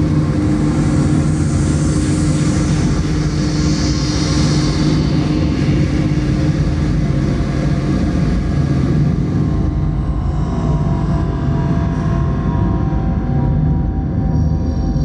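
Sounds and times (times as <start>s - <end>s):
distorted rumbling drone: 0.0s - 15.0s.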